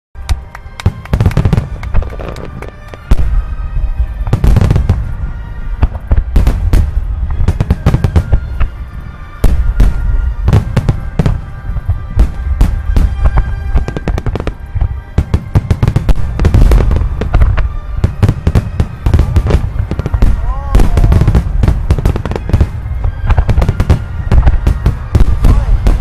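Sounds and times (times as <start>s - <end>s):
fireworks bursting: 0.2s - 26.0s
music: 0.2s - 26.0s.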